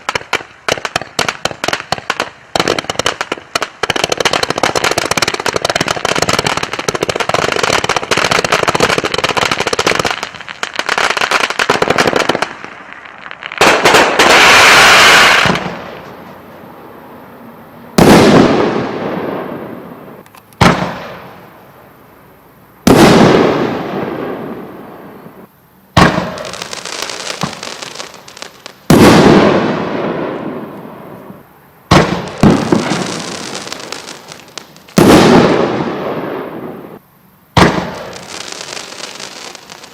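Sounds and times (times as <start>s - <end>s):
fireworks crackling bangs: 0.0s - 39.9s
loud firework bursts: 0.0s - 39.9s.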